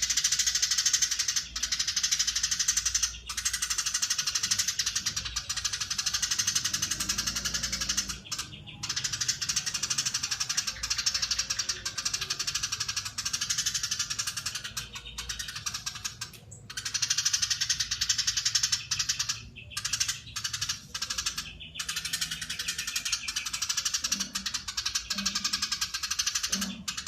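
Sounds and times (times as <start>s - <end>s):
sparrow chattering call: 0.0s - 27.0s.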